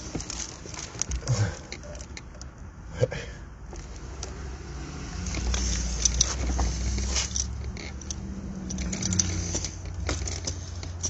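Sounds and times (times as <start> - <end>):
clicks rustles and scrapes: 0.0 - 2.6, 3.7 - 11.0
vehicle engine idling: 0.0 - 11.0.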